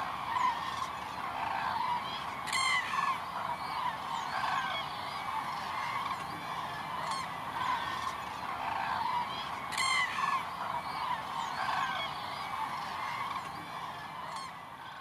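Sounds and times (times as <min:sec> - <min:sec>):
cranes trumpeting calls: 0:00.0 - 0:15.0.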